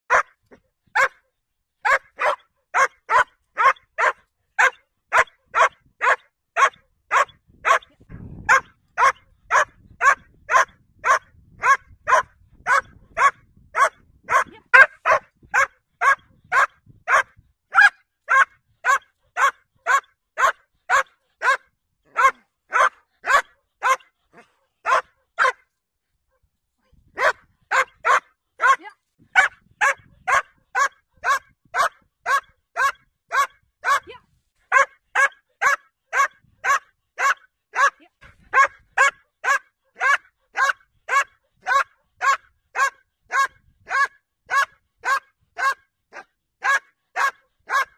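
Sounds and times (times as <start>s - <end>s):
puppy barking: 0.1s - 0.4s, 1.0s - 1.2s, 1.8s - 7.9s, 8.5s - 25.6s, 27.2s - 47.9s.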